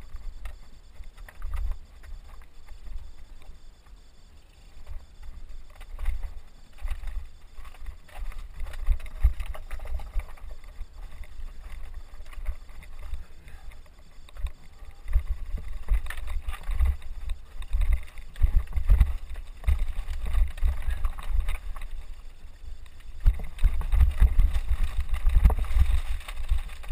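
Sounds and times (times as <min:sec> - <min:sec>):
bike tyres crunching over rocks: 0:04.8 - 0:26.9.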